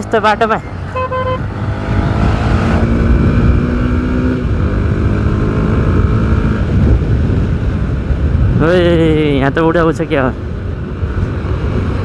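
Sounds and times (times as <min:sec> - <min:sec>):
wind rumble on microphone: 0:01.1 - 0:12.0.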